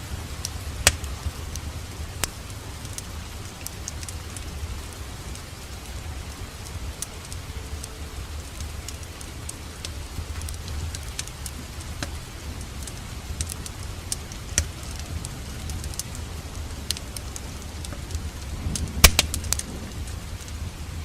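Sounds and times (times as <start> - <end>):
rain rumbling: 0.0 - 21.0
wood fire crackling: 0.0 - 21.0.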